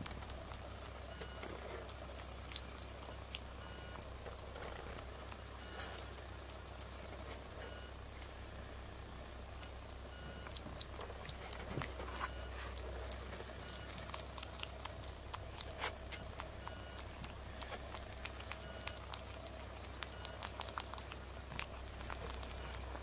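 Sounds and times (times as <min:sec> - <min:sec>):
small sharp clicks and ticks: 0:00.0 - 0:08.4, 0:09.5 - 0:23.0.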